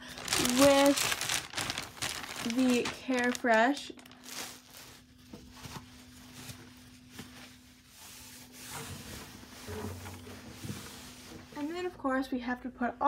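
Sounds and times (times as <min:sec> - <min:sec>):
paper bedding rustling: 0:00.0 - 0:11.9.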